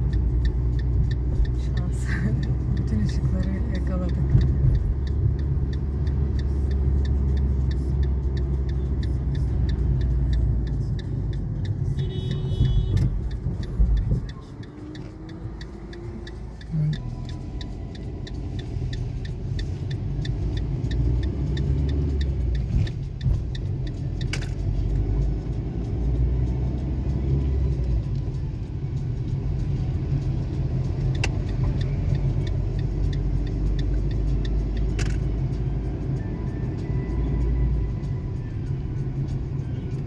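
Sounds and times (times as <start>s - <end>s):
car engine and tyre rumble: 0.0s - 40.0s
sharp clicks: 0.0s - 40.0s.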